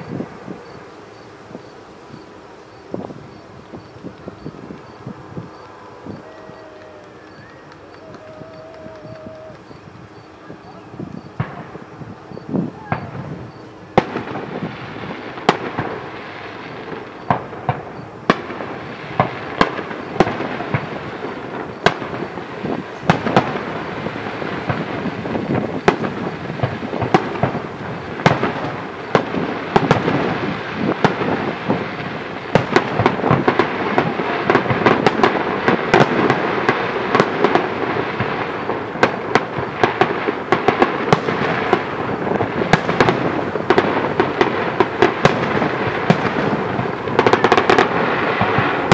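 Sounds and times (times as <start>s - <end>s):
fireworks bangs: 0.0s - 48.9s
fireworks crackling: 0.0s - 48.9s.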